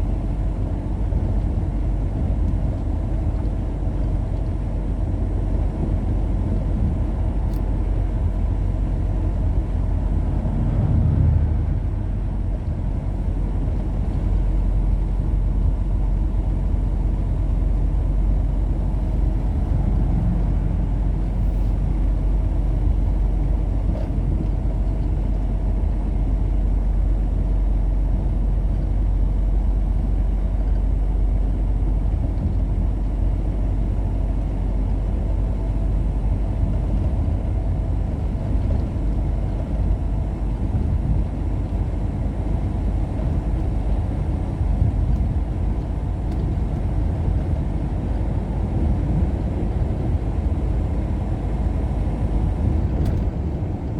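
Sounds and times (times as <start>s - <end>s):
vehicle driving on road: 0.0s - 53.9s.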